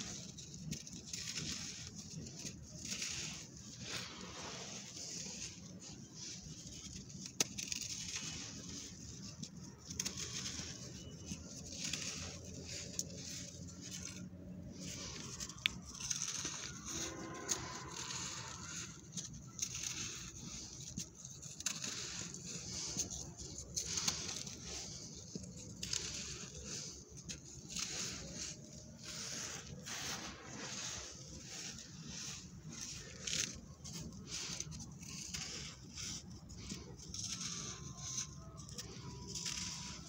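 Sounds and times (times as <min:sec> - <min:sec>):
dry sand crumbling by hand: 0:00.0 - 0:40.0.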